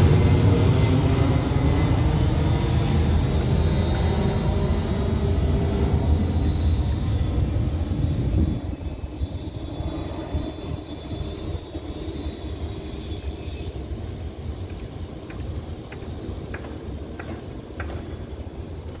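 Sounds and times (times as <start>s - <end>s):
distant jet engine rumble: 0.0s - 19.0s
high engine whine: 0.0s - 19.0s.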